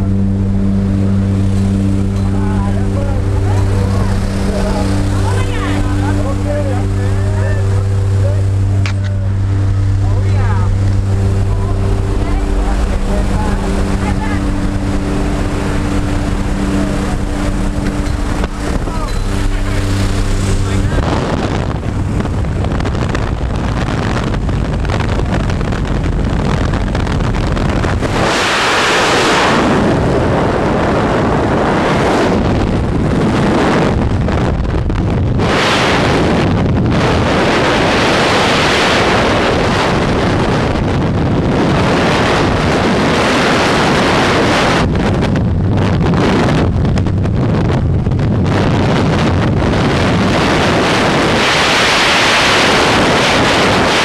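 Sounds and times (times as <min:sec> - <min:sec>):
light aircraft engine droning: 0:00.0 - 0:54.0
wind buffeting microphone: 0:00.0 - 0:54.0.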